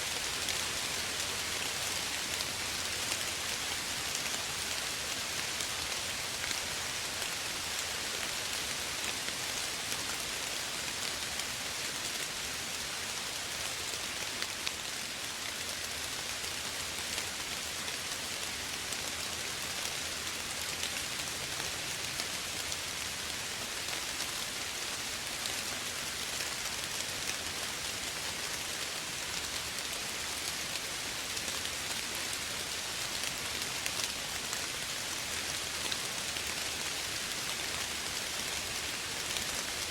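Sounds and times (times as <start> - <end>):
soft rain pattering: 0.0 - 39.9.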